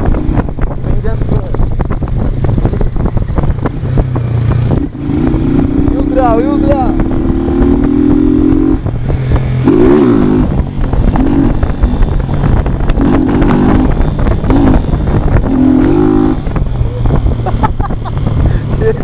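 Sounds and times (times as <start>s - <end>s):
motorcycle engine revving: 0.0s - 19.0s
wind on microphone: 0.0s - 19.0s.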